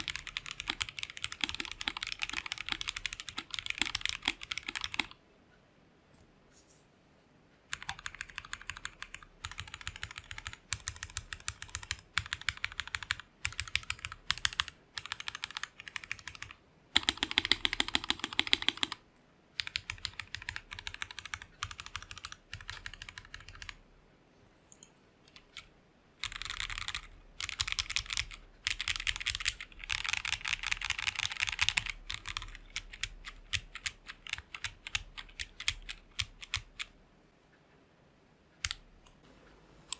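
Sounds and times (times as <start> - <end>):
mechanical keyboard typing: 0.0 - 5.2, 7.7 - 19.0, 19.6 - 23.8, 25.3 - 37.0.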